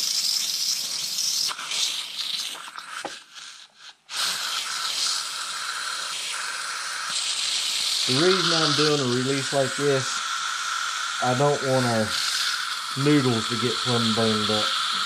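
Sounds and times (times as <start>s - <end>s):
steam valve hissing and sputtering: 0.0s - 15.0s.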